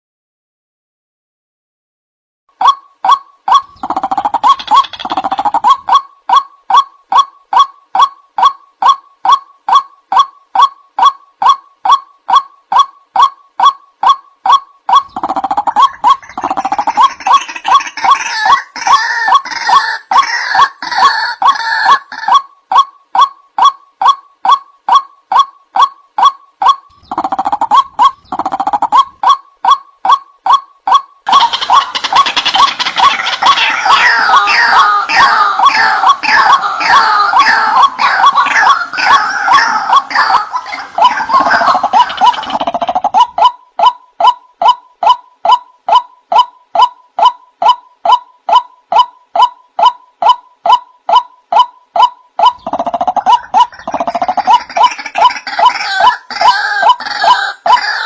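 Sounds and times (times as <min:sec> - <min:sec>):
waterhen harsh calling: 0:02.6 - 0:22.5, 0:26.6 - 0:51.3, 0:52.0 - 0:58.0.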